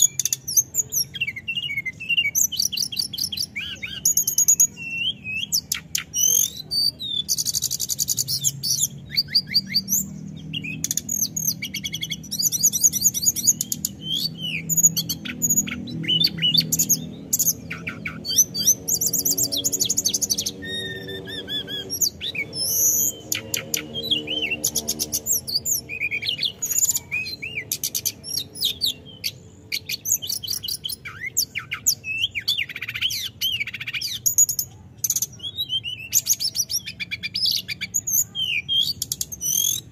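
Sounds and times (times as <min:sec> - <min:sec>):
bird singing trills and whistles: 0:00.0 - 0:39.9.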